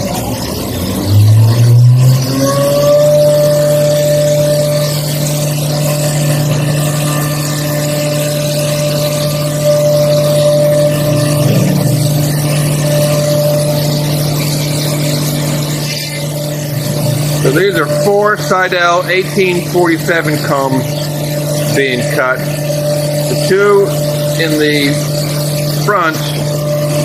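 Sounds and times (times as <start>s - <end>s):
high cutting whine: 0.0s - 27.0s
milling machine running: 0.0s - 27.0s.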